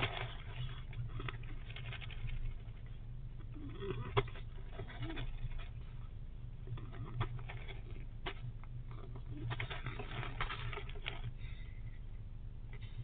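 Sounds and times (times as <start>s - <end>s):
squirrel snoring crackling clicks: 0.0s - 11.6s.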